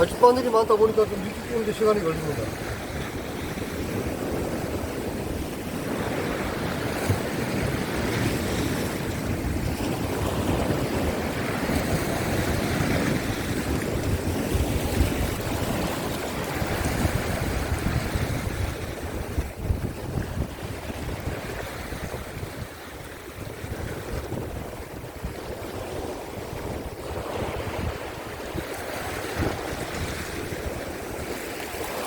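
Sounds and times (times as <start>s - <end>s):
waves breaking on rocks: 0.0s - 32.0s
wind buffeting microphone: 0.0s - 32.0s.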